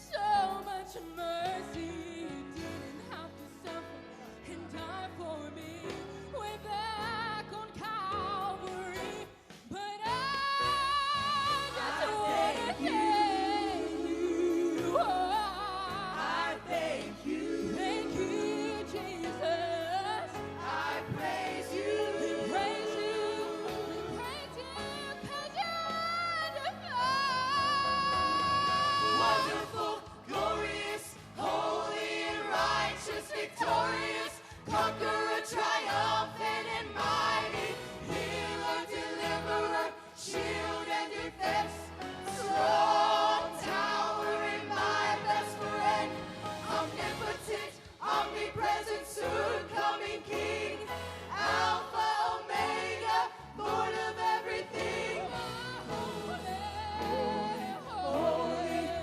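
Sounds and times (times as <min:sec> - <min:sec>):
choir singing gospel song: 0:00.0 - 0:59.0
worship band accompaniment: 0:00.0 - 0:59.0.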